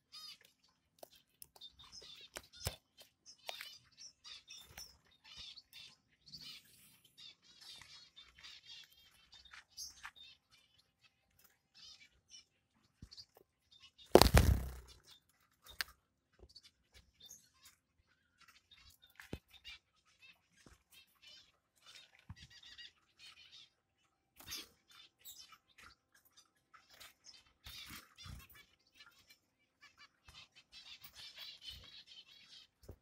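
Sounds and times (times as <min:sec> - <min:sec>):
finches chirping: 0:00.0 - 0:33.0.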